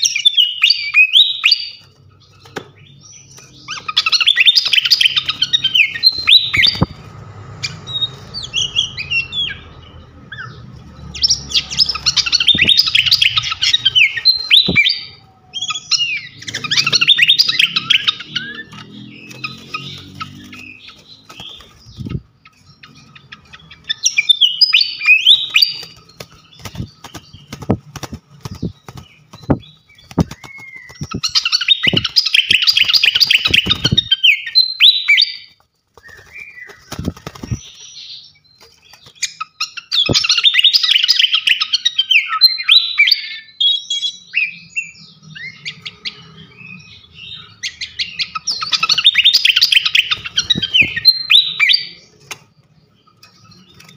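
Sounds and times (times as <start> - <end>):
songbird chirps and trills: 0.0 - 53.9.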